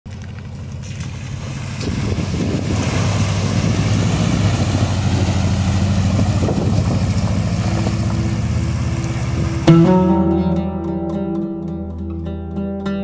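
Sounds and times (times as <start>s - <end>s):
car engine under load: 0.0s - 10.7s
mud and water splashing: 0.1s - 10.8s.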